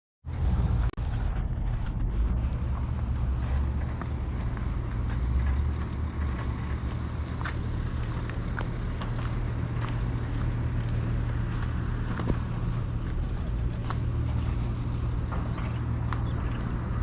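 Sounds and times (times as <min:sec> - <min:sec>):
heavy engine rumbling: 0:00.3 - 0:17.0.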